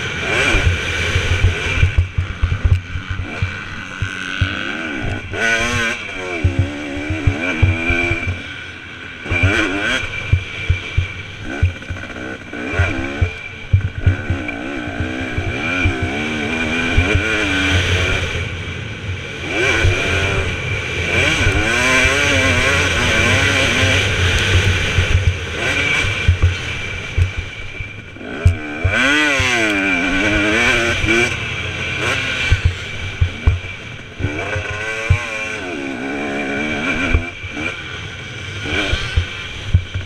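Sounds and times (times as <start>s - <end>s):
motocross bike engine revving: 0.0s - 40.0s
knocks and clatter from bike: 0.3s - 8.4s, 9.3s - 18.4s, 21.2s - 31.4s, 32.0s - 35.6s, 38.6s - 40.0s.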